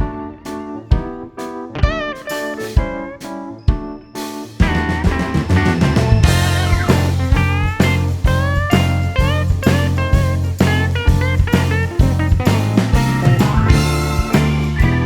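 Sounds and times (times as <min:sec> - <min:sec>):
blues music with electric guitar: 0:00.0 - 0:15.0.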